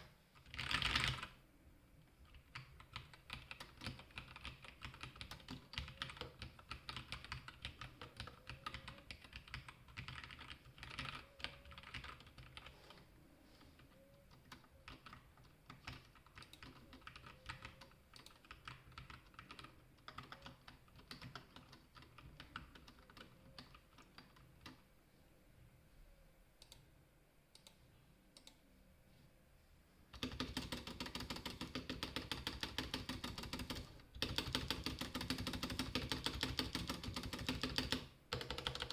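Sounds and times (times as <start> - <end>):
mechanical keyboard typing: 0.0 - 1.3, 2.2 - 13.0, 13.9 - 24.8, 30.2 - 38.9.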